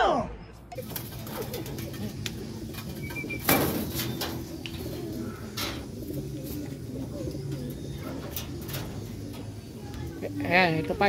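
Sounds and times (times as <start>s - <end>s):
pigeons cooing: 0.7s - 11.0s.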